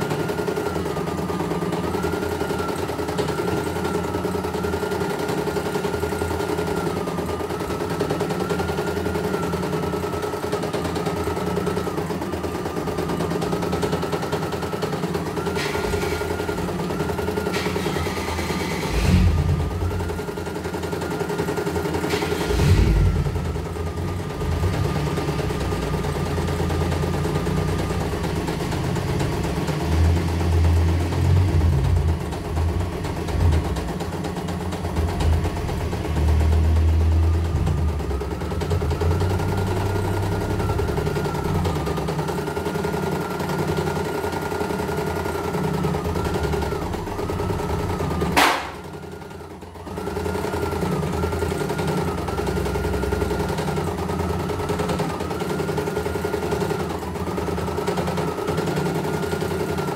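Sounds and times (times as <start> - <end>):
embroidery machine rattling: 0.0 - 59.9.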